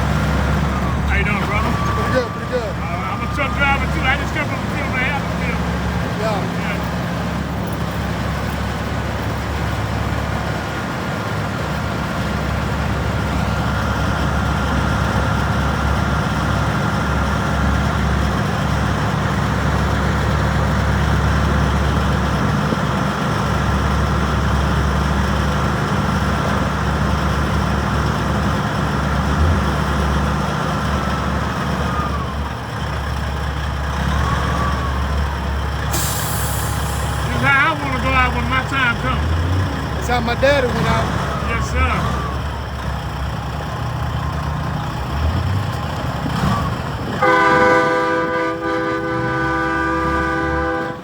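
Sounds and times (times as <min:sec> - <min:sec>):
diesel truck engine idling: 0:00.0 - 0:51.0.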